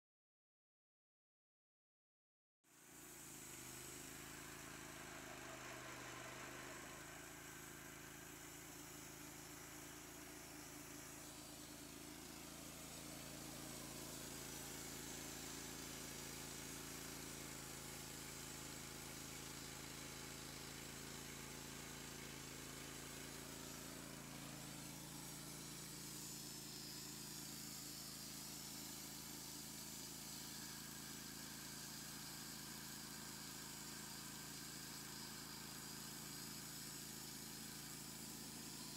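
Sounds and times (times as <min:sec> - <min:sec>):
bandsaw mill cutting log: 0:03.0 - 0:38.9.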